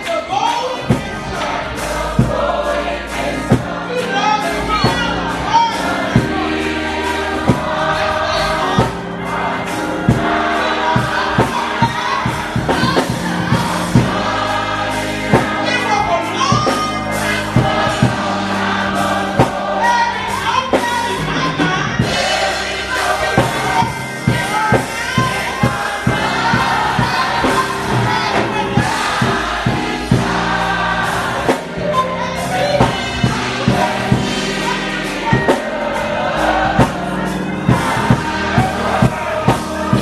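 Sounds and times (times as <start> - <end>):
band with drums and bass: 0.0 - 40.0
gospel choir singing: 0.0 - 40.0.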